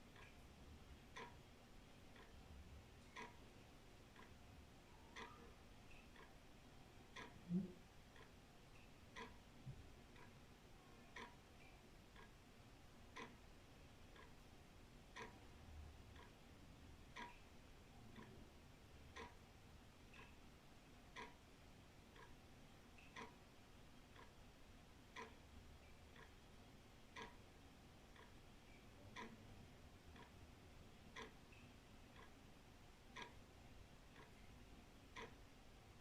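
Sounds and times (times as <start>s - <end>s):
wall clock ticking: 0.0s - 36.0s.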